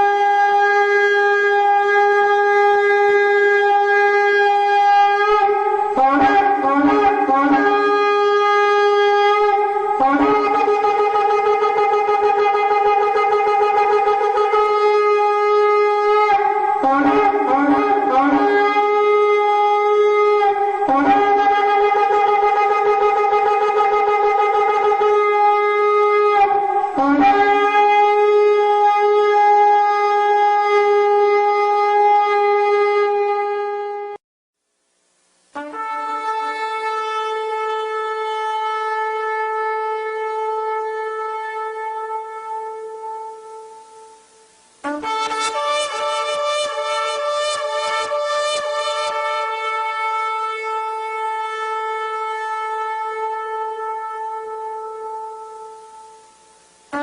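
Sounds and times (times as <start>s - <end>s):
shofar blasts: 0.0s - 34.2s, 35.6s - 57.0s.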